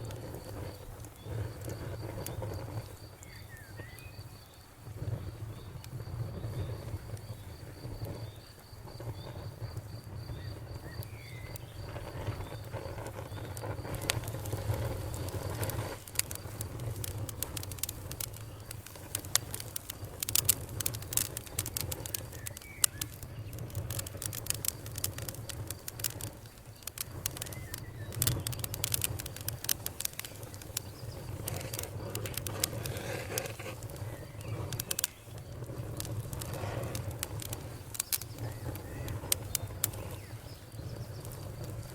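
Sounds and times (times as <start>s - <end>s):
campfire crackling: 0.0s - 41.9s
cricket chirping: 0.0s - 41.9s.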